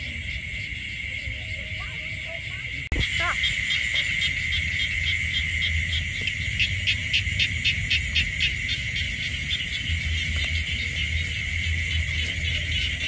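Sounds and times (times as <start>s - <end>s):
insect pulsing call: 0.0s - 13.0s
insects droning: 0.0s - 13.0s
low rumbling noise: 0.0s - 13.0s.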